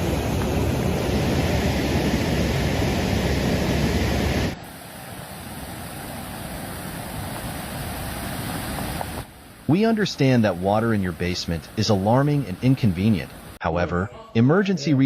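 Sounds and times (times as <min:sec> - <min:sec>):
floodwater rushing: 0:00.0 - 0:13.6.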